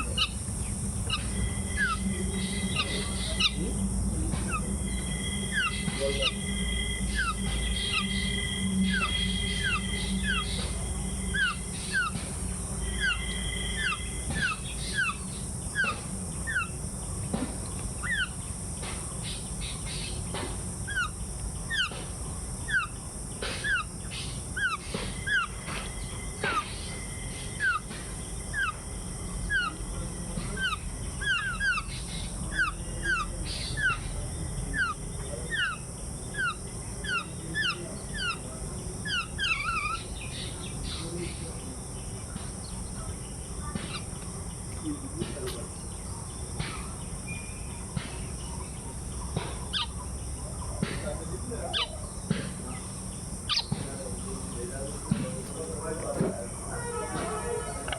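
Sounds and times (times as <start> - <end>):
songbirds calling: 0.0 - 57.9
steady high hiss: 0.0 - 57.9.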